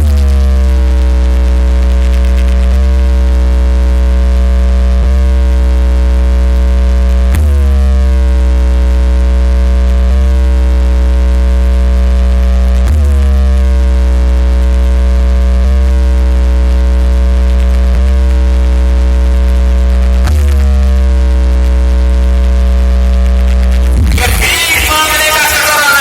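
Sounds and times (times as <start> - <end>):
deep electronic bass drone: 0.0 - 26.0.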